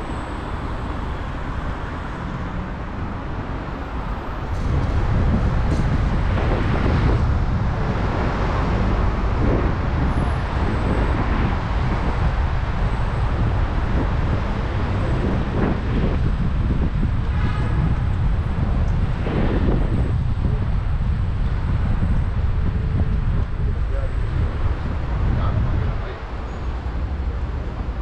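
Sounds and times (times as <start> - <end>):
city street traffic rumble: 0.0 - 28.0.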